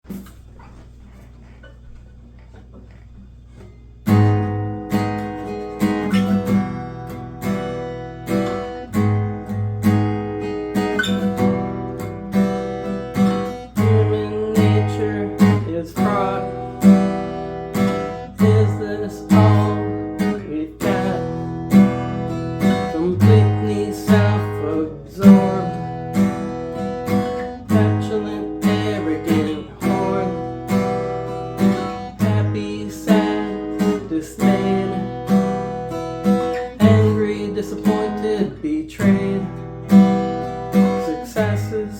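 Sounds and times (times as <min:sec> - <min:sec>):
acoustic guitar strumming: 0:00.0 - 0:41.9.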